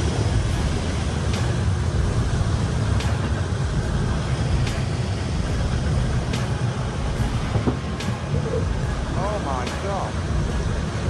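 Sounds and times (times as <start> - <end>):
heavy vehicle engine rumble: 0.0 - 11.0.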